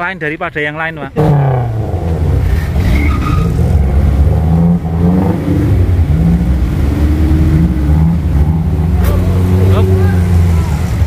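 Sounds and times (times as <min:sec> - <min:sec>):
vehicle engine revving: 0:01.2 - 0:11.0.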